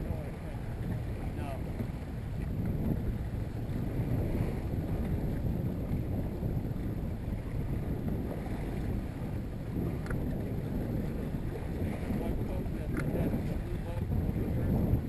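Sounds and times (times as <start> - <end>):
water rushing along boat hull: 0.0 - 15.0
wind buffeting microphone: 0.0 - 15.0.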